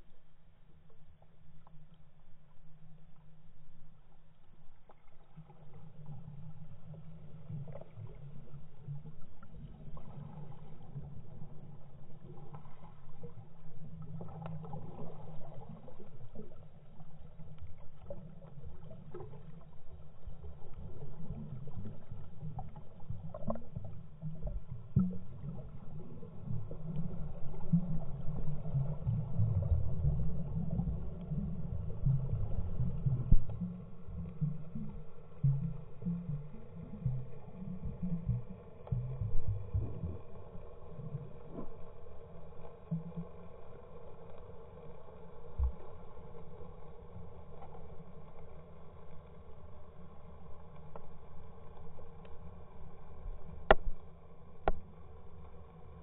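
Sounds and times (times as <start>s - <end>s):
muffled underwater water rumble: 0.0s - 56.0s.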